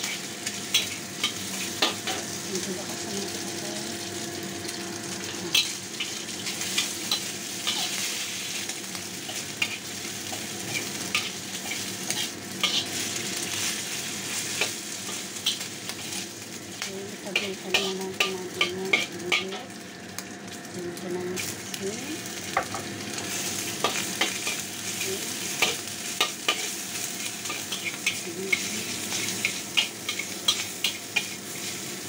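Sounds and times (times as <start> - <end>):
ham sizzling in hot oil: 0.0 - 32.0.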